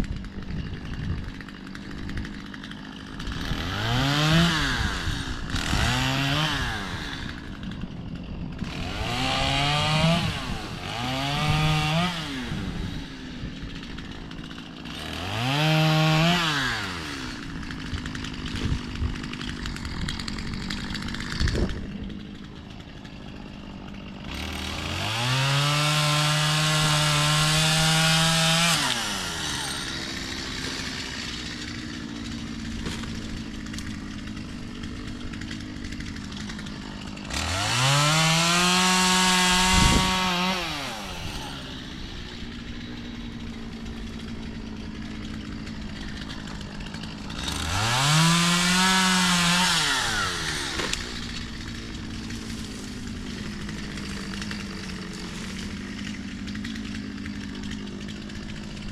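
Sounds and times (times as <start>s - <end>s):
chainsaw revving and cutting wood: 0.0s - 58.9s.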